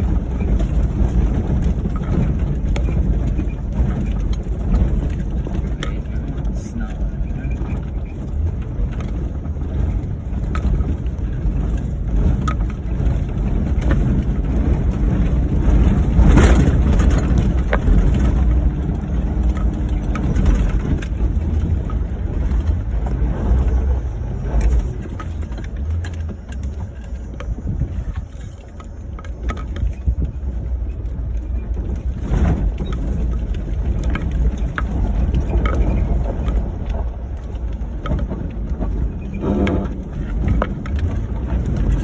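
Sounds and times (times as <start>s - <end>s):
car engine rumbling off-road: 0.0s - 42.0s.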